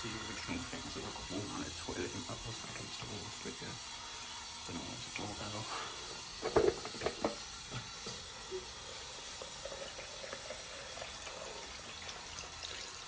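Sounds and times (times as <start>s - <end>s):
running water hiss: 0.0s - 13.0s.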